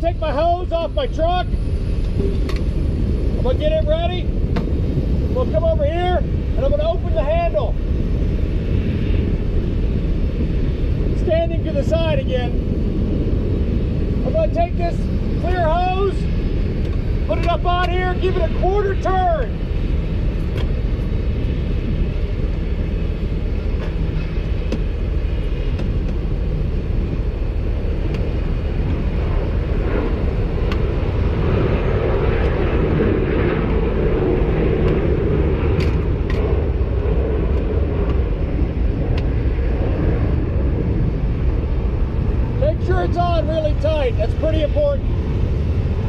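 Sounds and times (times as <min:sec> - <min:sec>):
machinery engine rumble: 0:00.0 - 0:46.0.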